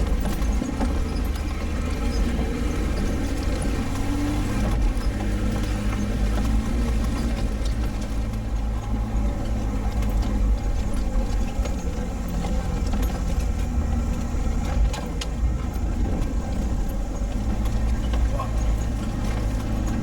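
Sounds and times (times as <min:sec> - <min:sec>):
scattered rattles: 0:00.0 - 0:20.0
vehicle engine running: 0:00.0 - 0:20.0.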